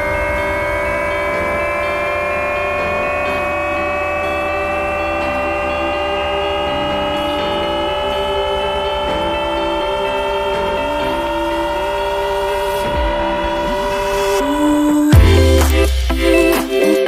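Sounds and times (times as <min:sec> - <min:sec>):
music with lower melodic line: 0:00.0 - 0:17.0
sustained horn-like chord: 0:00.0 - 0:17.0.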